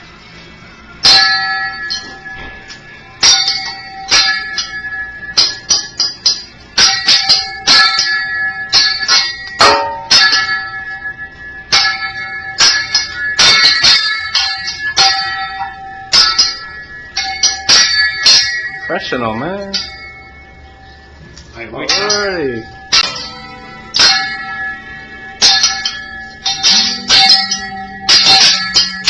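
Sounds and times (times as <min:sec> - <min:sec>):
metal spatulas clanging: 0:01.0 - 0:29.0.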